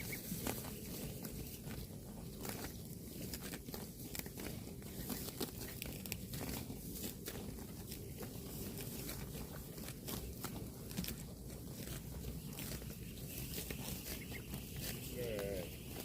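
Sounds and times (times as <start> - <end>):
cow tearing and chewing grass: 0.0 - 16.0.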